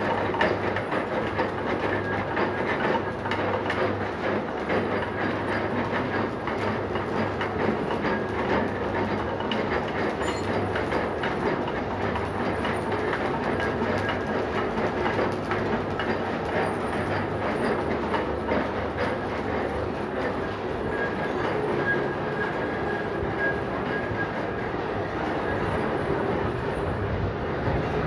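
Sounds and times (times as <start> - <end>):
metal lathe running: 4.8 - 28.0.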